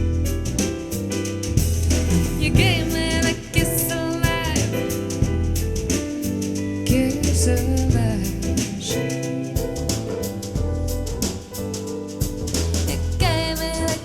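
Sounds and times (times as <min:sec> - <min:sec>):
jazz music through earpiece: 0:00.0 - 0:14.0.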